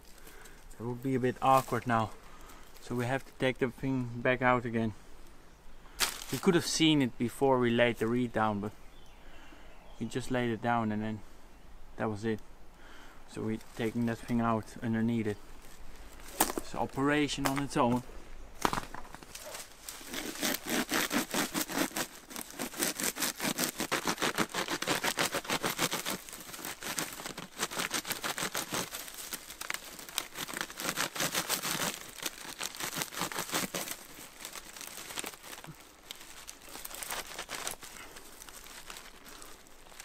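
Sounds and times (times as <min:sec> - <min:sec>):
dry reed rustling and crackling: 0:00.0 - 0:03.7, 0:05.9 - 0:08.3, 0:13.3 - 0:18.0, 0:18.6 - 0:40.0.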